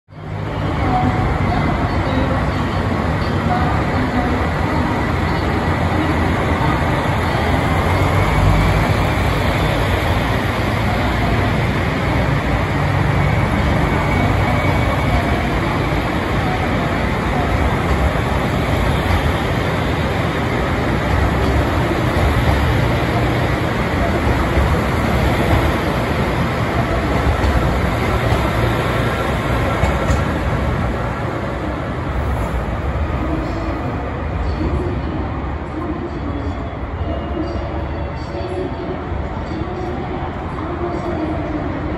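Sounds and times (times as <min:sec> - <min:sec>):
diesel train engines running: 0:00.2 - 0:41.9
train wheels on rails: 0:01.0 - 0:34.6.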